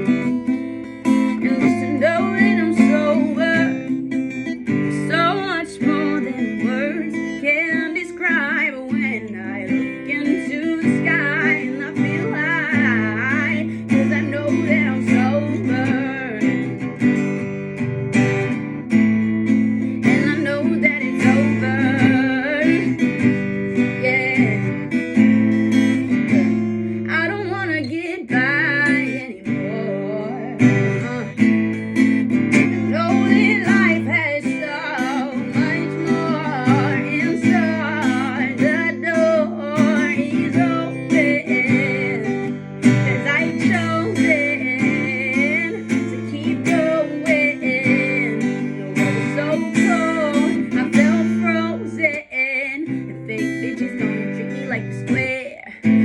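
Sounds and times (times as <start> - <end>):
acoustic guitar strumming: 0.0 - 56.0
person singing: 0.0 - 56.0.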